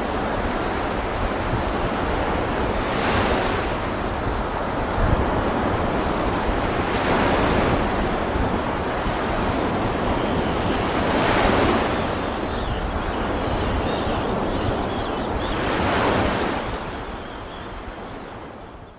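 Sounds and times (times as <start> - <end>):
sea waves washing ashore: 0.0 - 18.8.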